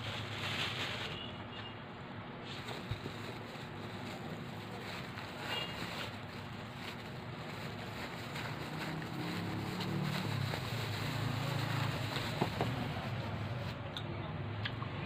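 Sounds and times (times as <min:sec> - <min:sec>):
cling wrap rustling and crinkling: 0:00.0 - 0:01.5, 0:02.4 - 0:13.8
steady background noise: 0:00.0 - 0:15.0.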